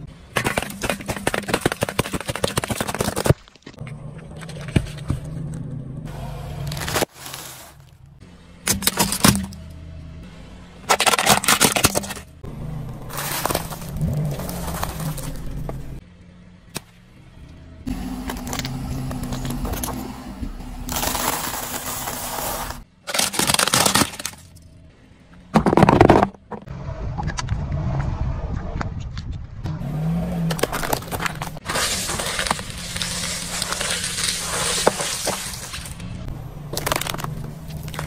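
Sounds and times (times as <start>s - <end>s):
car tyre crushing objects: 0.0s - 16.0s, 16.6s - 17.0s, 17.8s - 38.0s.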